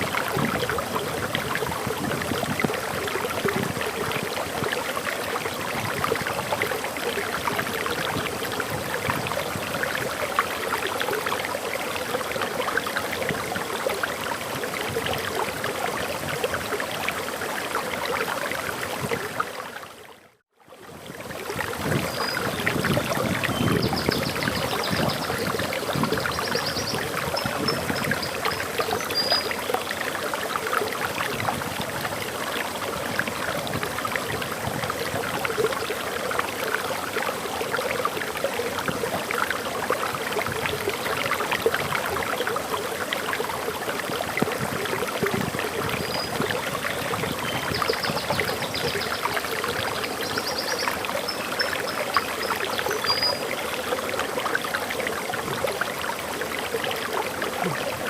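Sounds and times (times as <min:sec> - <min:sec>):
waterfall pouring and splashing: 0:00.0 - 0:20.4, 0:21.0 - 0:58.0.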